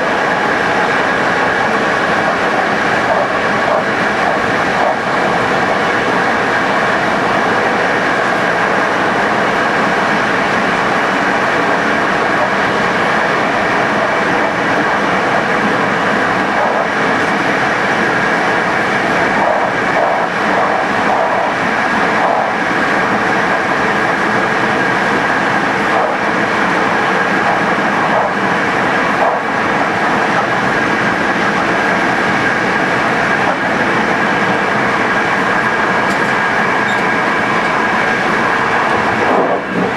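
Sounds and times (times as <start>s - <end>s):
train wheels rolling on rail: 0.0s - 39.9s.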